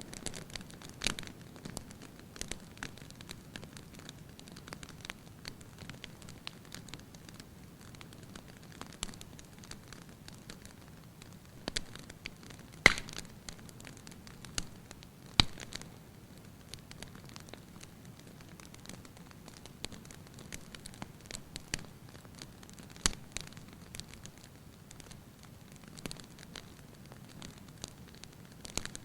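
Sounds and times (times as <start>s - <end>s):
wood fire crackling: 0.0s - 29.0s
fire pops: 0.1s - 16.0s, 16.6s - 29.0s.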